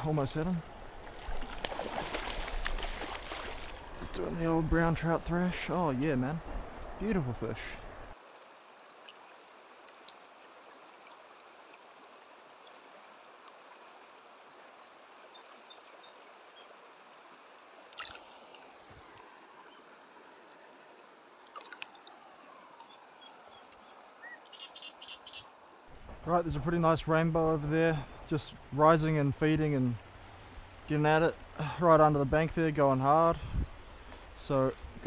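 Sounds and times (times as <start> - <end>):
river trickling over stones: 0.2 - 35.0.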